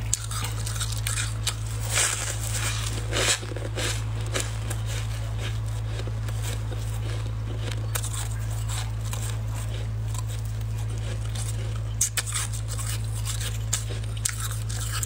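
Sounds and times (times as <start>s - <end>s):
frost crunching while chewed: 0.0s - 15.0s
low hum: 0.0s - 15.0s.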